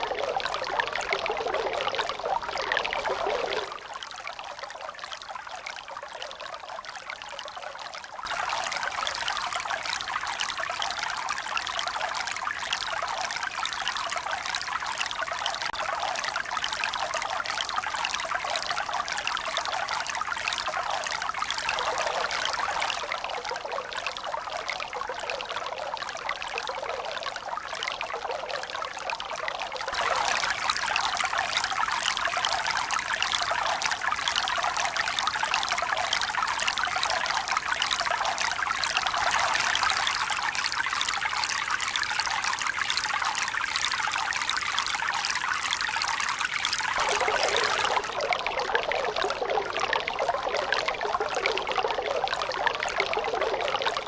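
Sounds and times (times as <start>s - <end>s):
running water trickling and pouring: 0.0s - 54.0s.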